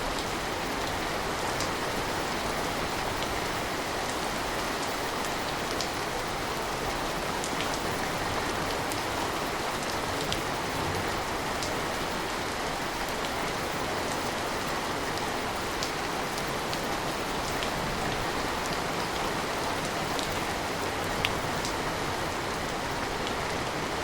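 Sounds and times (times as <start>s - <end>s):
steady rain: 0.0s - 24.0s
raindrops ticking on a surface: 0.1s - 23.6s.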